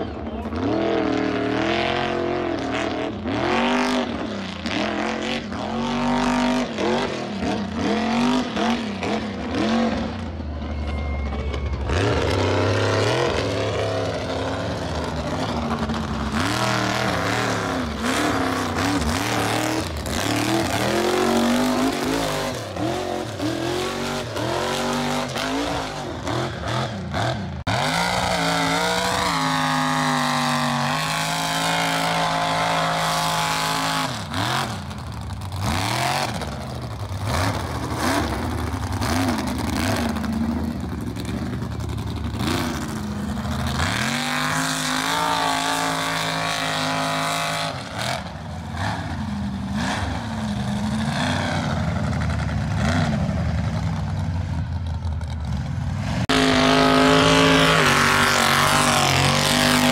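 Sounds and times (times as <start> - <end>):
truck engine revving hard: 0.0 - 10.5, 11.7 - 54.5, 55.3 - 59.9.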